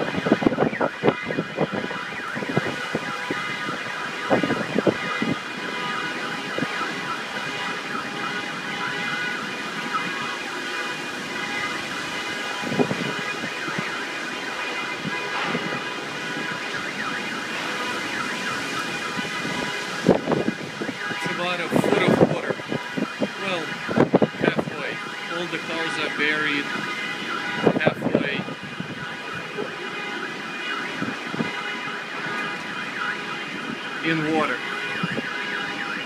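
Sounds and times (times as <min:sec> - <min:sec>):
car alarms sounding: 0:00.0 - 0:36.0
wind noise: 0:00.0 - 0:36.0.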